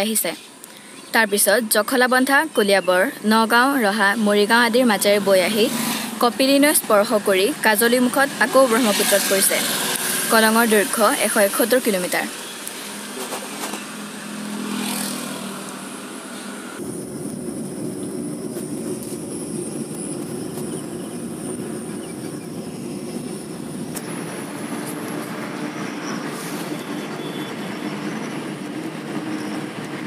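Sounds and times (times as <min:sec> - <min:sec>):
road and tyre noise: 0:00.0 - 0:30.0.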